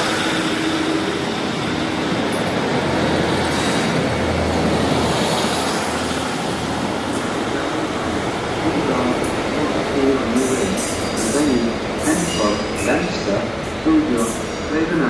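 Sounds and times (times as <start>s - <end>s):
diesel train engine: 0.0s - 15.0s
train wheels on rails: 0.0s - 15.0s.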